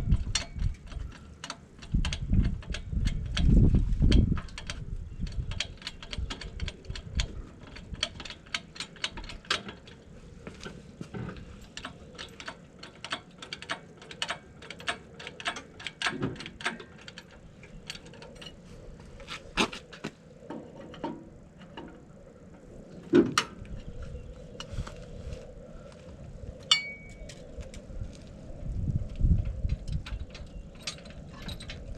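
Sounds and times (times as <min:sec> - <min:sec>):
wind on microphone: 0:00.0 - 0:31.9.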